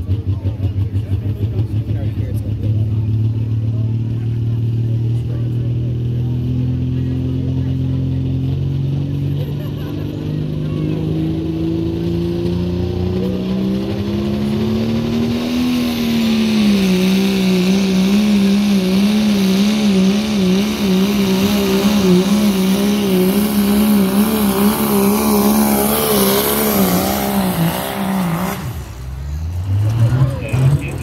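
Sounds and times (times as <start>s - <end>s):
diesel pickup engine at full throttle: 0.0s - 31.0s.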